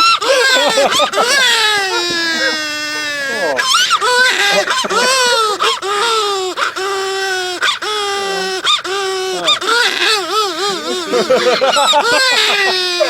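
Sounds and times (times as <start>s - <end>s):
person imitating crying infant: 0.0s - 13.0s.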